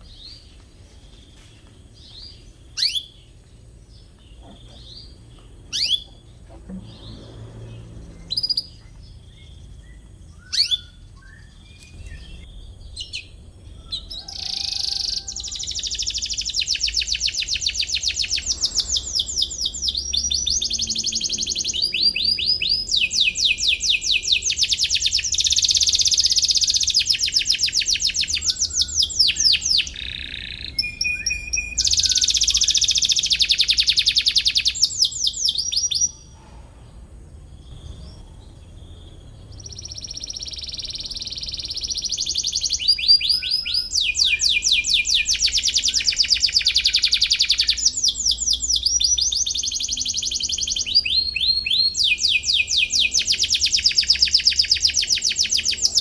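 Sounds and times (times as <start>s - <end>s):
canary singing trills: 0.0s - 36.4s, 37.6s - 56.0s.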